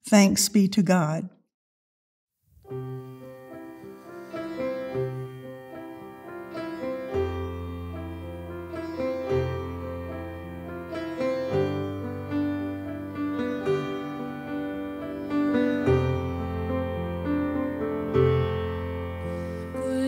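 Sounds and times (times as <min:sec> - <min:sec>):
slow piano instrumental: 0:02.6 - 0:20.0.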